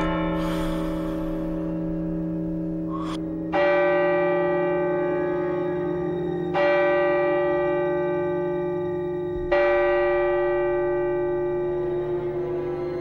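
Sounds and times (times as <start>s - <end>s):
bell tolling: 0.0s - 13.0s.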